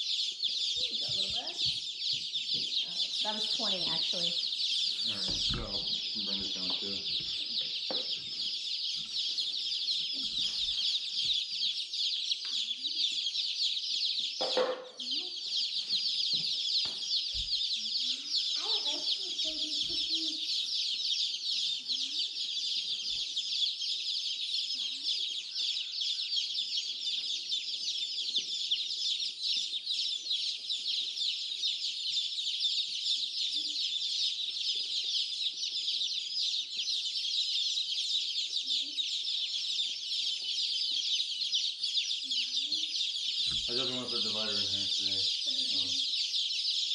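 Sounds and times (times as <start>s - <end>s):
baby chicks peeping: 0.0s - 46.9s.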